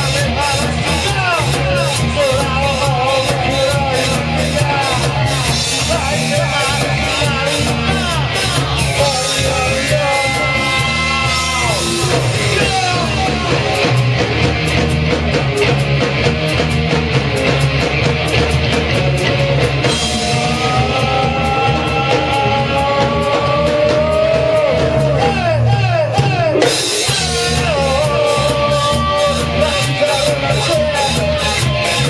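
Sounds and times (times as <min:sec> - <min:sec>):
bass guitar: 0:00.0 - 0:32.0
drums fast beat: 0:00.0 - 0:32.0
electric guitar: 0:00.0 - 0:32.0.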